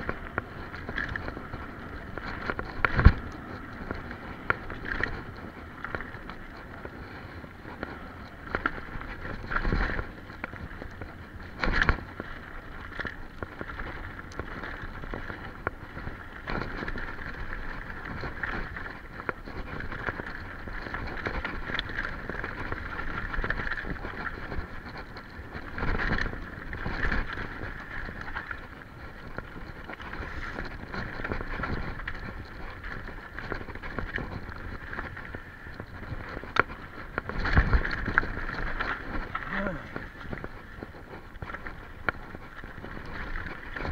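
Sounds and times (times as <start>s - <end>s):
bike jolting over bumps: 0.0s - 43.9s
bike rattling: 0.0s - 43.9s
bike tyres on rough trail: 0.0s - 43.9s.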